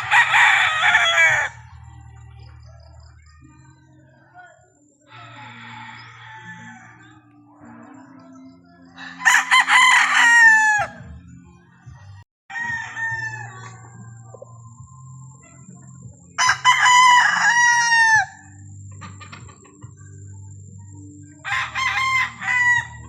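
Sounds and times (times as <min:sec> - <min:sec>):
roosters crowing: 0:00.0 - 0:03.2, 0:05.0 - 0:11.3, 0:12.5 - 0:23.0.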